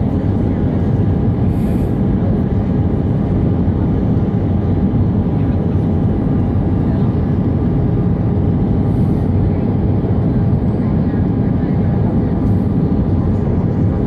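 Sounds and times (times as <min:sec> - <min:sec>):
aircraft cabin engine drone: 0:00.0 - 0:14.0.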